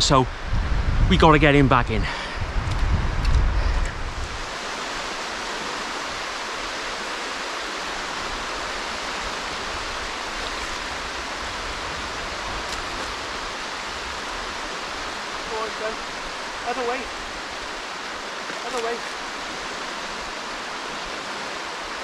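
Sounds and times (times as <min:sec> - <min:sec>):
small waves washing in: 0:03.9 - 0:22.0.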